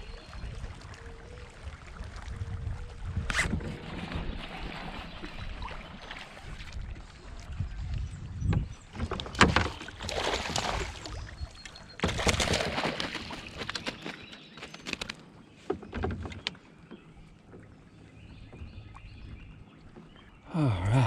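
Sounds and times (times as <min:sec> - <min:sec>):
water splashing around kayak: 0:00.0 - 0:20.9.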